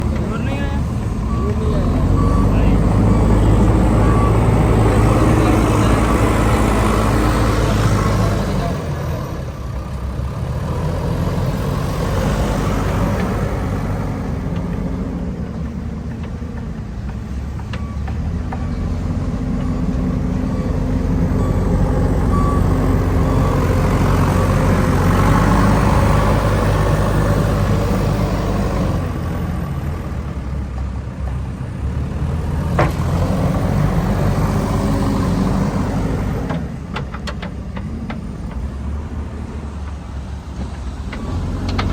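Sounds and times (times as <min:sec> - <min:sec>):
diesel engine under load: 0:00.0 - 0:41.9.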